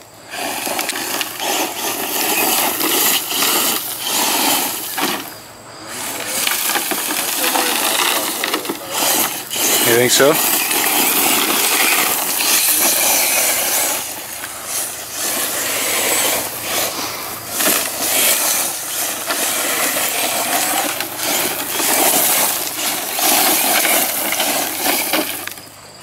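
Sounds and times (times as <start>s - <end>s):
rc truck tyres rushing over dirt: 0.0s - 26.0s.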